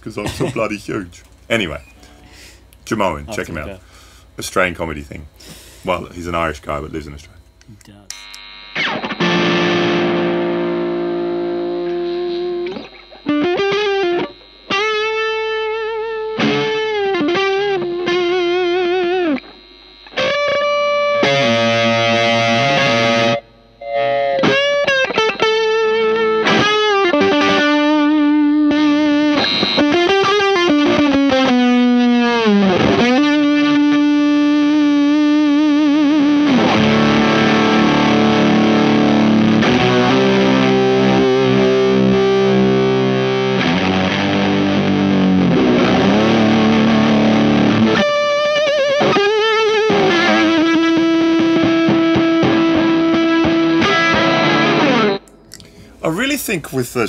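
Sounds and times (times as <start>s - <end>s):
fuzzed electric guitar: 0.0s - 57.0s.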